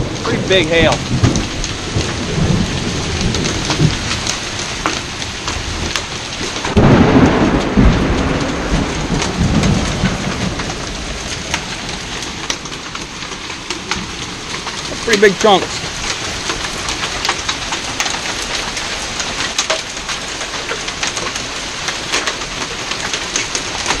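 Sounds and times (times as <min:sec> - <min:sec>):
hailstones ticking: 0:00.0 - 0:24.0
heavy rain hiss: 0:00.0 - 0:24.0
thunder rumbling: 0:00.0 - 0:24.0.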